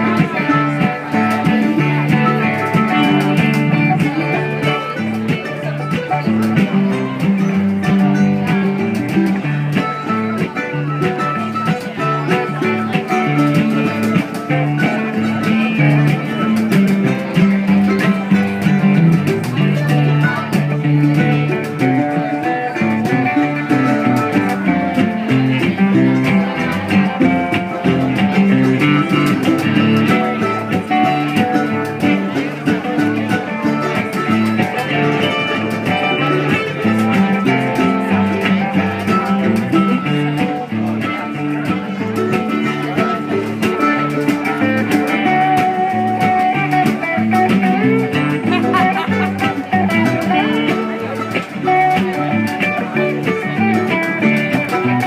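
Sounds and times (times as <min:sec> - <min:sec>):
live band with string instruments: 0:00.0 - 0:55.0.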